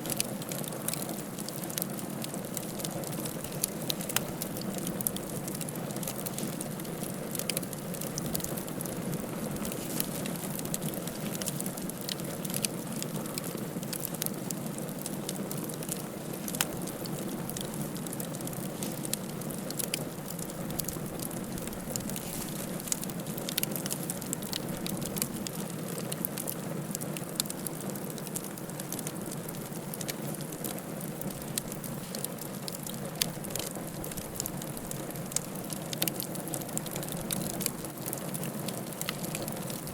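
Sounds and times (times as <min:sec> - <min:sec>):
fire burning: 0:00.0 - 0:39.9
fire crackling: 0:00.0 - 0:39.9.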